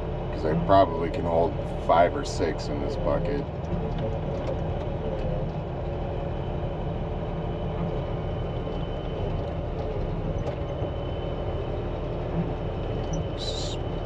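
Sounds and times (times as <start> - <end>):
loader engine running: 0.0 - 14.0.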